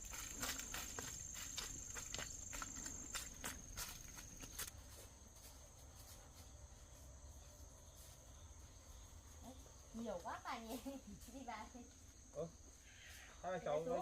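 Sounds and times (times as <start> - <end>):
footsteps crunching on path: 0.0 - 12.3
insects trilling: 0.0 - 14.0.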